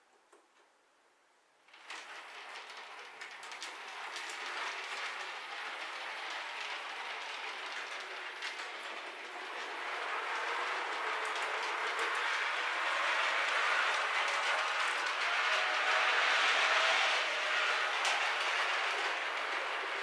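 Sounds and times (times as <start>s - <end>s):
model tram rolling rattle: 1.7s - 20.0s
wheels clicking on rails: 1.7s - 20.0s.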